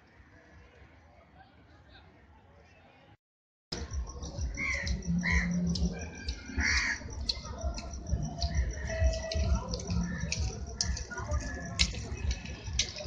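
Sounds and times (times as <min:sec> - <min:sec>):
crowd hubbub: 0:00.0 - 0:13.0.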